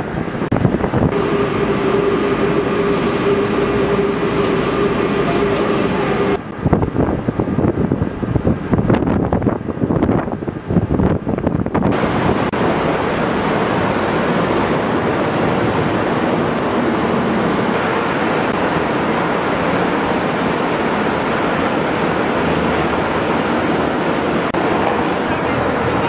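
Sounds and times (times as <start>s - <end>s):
seawater rushing between hulls: 0.0s - 26.0s
wind on microphone: 0.0s - 26.0s.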